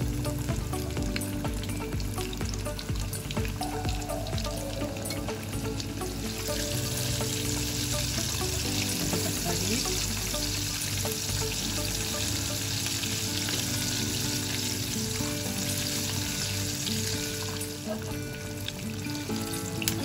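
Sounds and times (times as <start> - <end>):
background music with held notes: 0.0 - 20.0
hot oil sizzling in a pan: 0.0 - 20.0.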